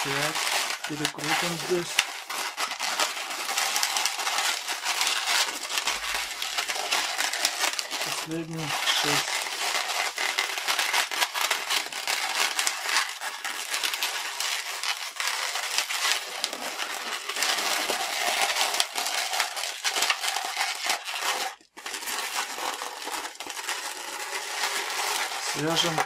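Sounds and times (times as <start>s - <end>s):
balloons rubbing and squeaking: 0.0s - 26.0s.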